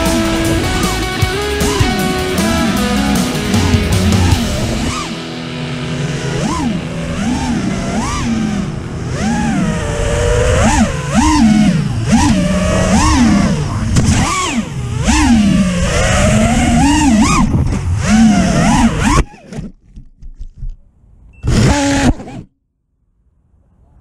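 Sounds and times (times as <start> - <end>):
drone motors whining: 0.0 - 19.7, 21.4 - 22.5.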